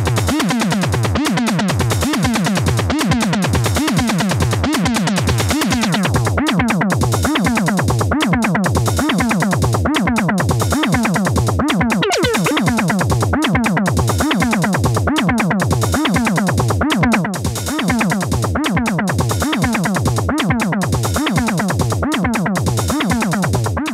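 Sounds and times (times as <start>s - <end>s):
synthesizer techno loop: 0.0s - 23.9s.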